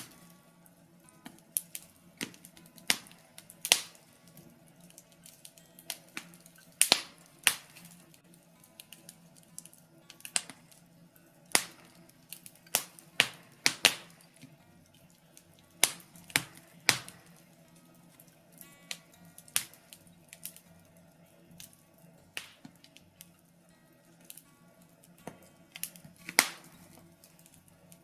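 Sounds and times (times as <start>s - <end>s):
logs crackling in a fireplace: 0.0s - 28.0s.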